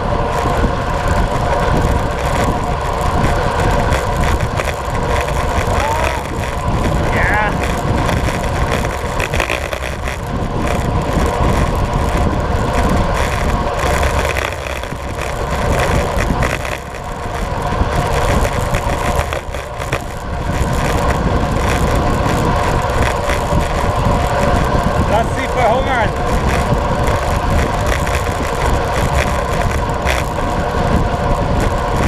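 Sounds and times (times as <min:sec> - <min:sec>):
bike tyres humming on asphalt: 0:00.0 - 0:32.0
wind on microphone: 0:00.0 - 0:32.0.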